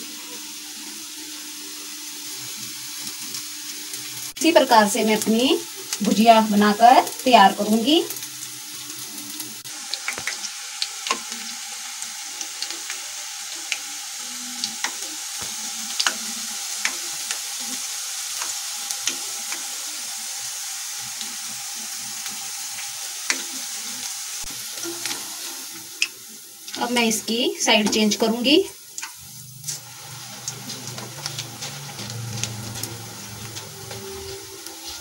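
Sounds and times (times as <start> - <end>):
food deep-frying in oil: 0.0 - 35.0
sharp crackles of frying: 0.0 - 35.0.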